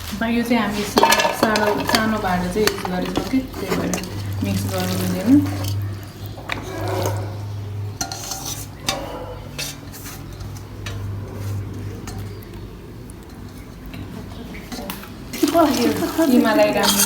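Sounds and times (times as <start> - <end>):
utensil scraping a bowl: 0.6 - 17.0.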